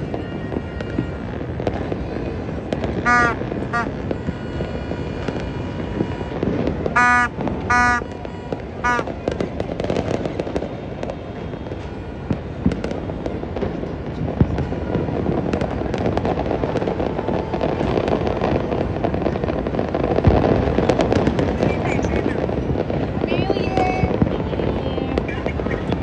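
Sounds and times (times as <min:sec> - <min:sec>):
fireworks crackling: 0:00.0 - 0:26.0
loud firework bangs: 0:00.0 - 0:26.0.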